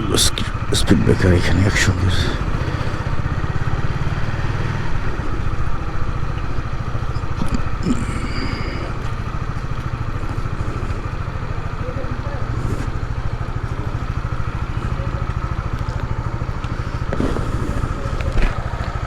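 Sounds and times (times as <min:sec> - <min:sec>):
small engine running: 0:00.0 - 0:19.0
street traffic: 0:00.0 - 0:19.0.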